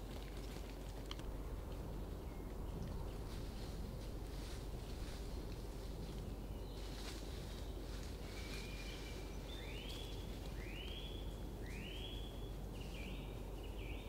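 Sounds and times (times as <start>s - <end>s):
low hiss and hum: 0.0s - 14.0s.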